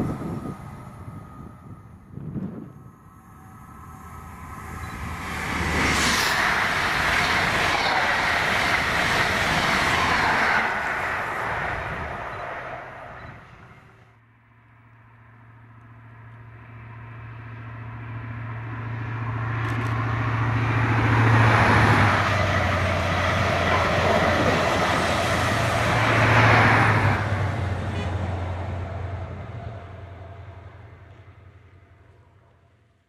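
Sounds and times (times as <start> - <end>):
train coaches rushing past: 0.0 - 14.1, 18.7 - 32.4
train engine drone: 0.0 - 33.0.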